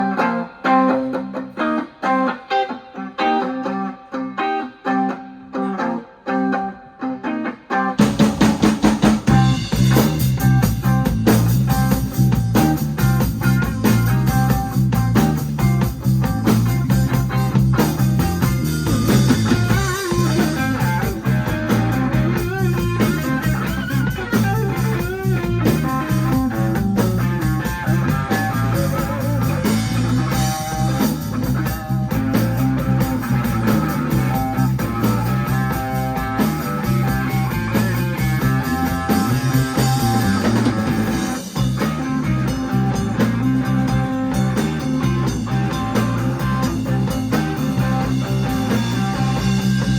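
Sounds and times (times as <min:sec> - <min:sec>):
electric guitar: 0:00.0 - 0:49.9
drum kit: 0:07.7 - 0:49.9
bass line: 0:08.0 - 0:49.9.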